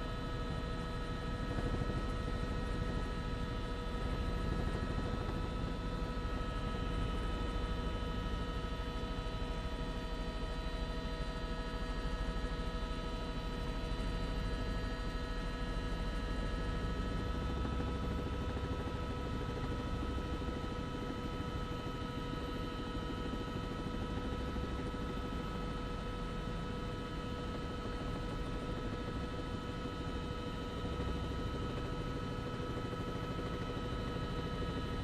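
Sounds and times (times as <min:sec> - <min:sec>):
helicopter cabin drone: 0:00.0 - 0:35.0.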